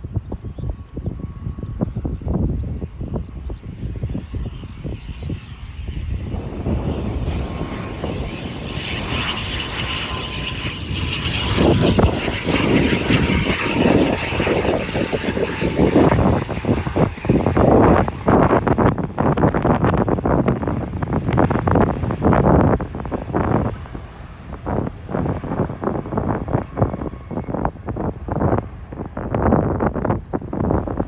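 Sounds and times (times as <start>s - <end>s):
turboprop airliner passing: 0.0s - 31.0s
wind buffeting microphone: 0.0s - 31.0s.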